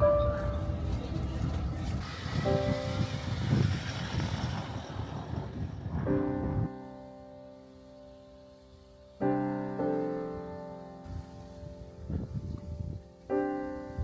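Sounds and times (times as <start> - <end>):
slow piano music: 0.0 - 3.6, 5.8 - 14.0.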